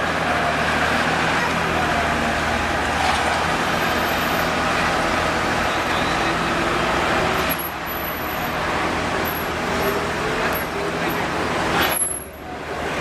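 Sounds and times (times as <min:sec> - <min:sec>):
road traffic noise: 0:00.0 - 0:13.0
vehicle engines running: 0:00.0 - 0:13.0.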